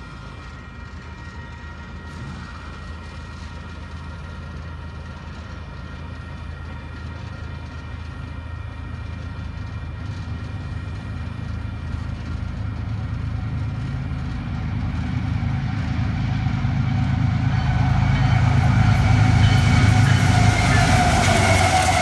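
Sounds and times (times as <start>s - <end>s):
diesel locomotive engine rumble: 0.0s - 22.0s.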